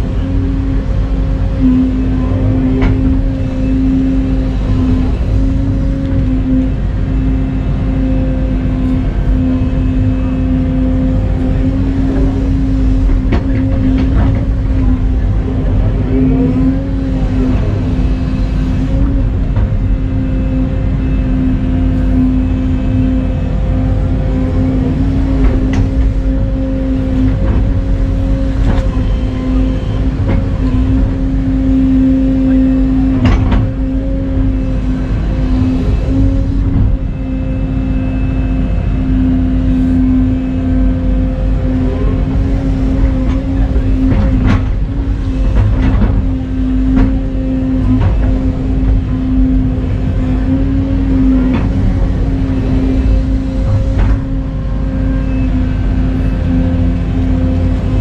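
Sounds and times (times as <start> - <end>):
excavator diesel engine running: 0.0 - 58.0
hydraulic whine: 0.0 - 58.0.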